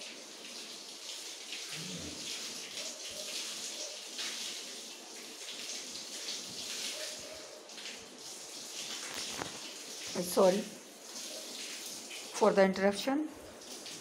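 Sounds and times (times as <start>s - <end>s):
running water splashing: 0.0s - 14.0s.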